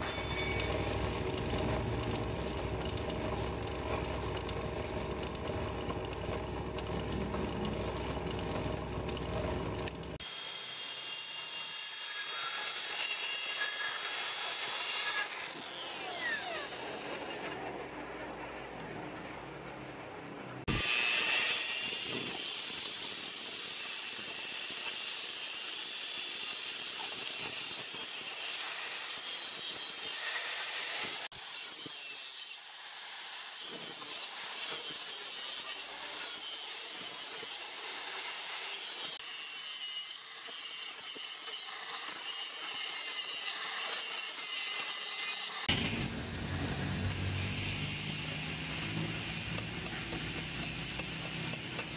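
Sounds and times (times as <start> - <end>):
angle grinder grinding steel: 0.0 - 18.0, 20.7 - 51.9.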